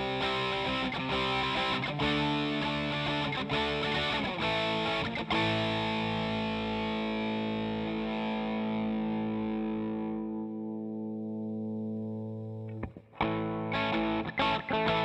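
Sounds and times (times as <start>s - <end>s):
overdriven electric guitar chords: 0.0s - 15.0s.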